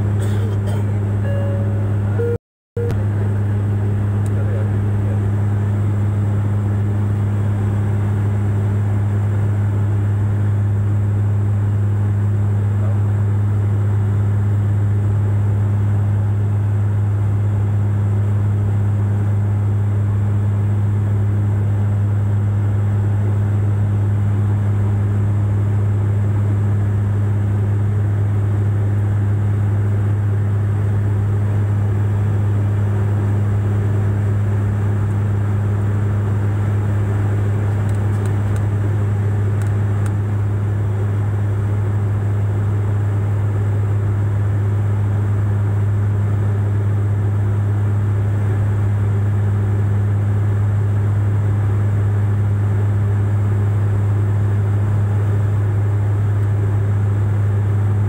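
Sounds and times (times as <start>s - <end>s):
propeller drone: 0.0s - 58.0s.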